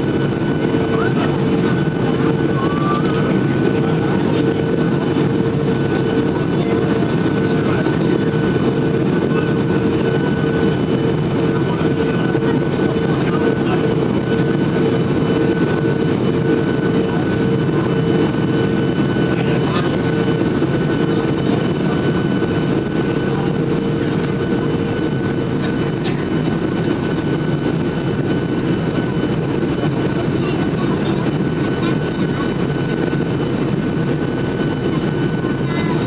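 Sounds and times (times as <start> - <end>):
jet engine and airflow noise: 0.0 - 36.0.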